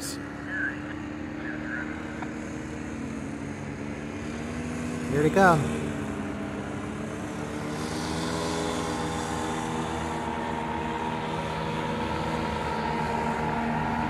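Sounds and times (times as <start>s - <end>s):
paramotors droning overhead: 0.0s - 14.0s.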